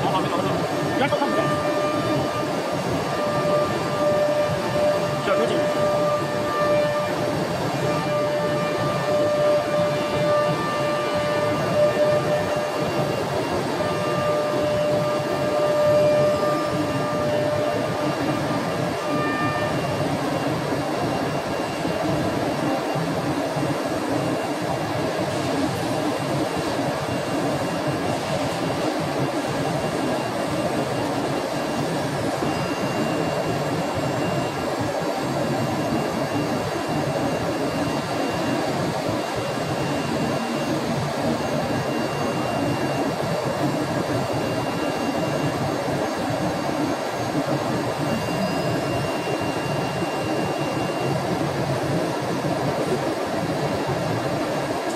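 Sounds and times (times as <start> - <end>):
cnc router rushing noise: 0.0 - 54.9
thin high whine: 0.0 - 54.9.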